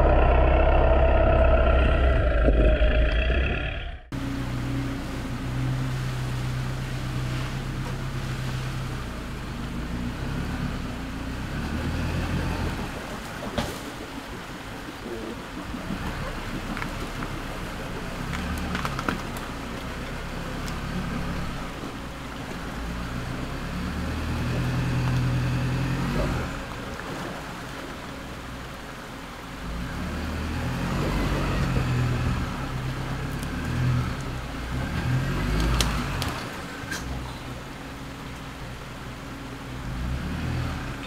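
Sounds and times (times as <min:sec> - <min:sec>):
diesel truck engine revving: 0:00.0 - 0:13.1, 0:16.0 - 0:26.9, 0:29.6 - 0:41.0.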